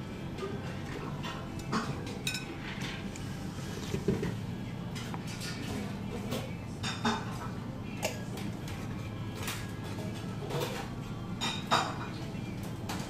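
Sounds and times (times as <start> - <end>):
restaurant hum: 0.0 - 13.0.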